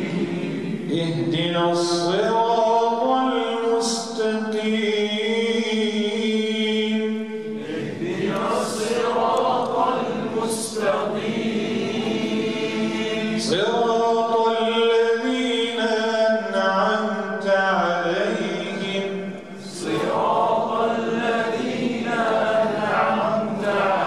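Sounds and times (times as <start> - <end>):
man reciting melodically into microphone: 0.0 - 11.4, 12.0 - 24.0.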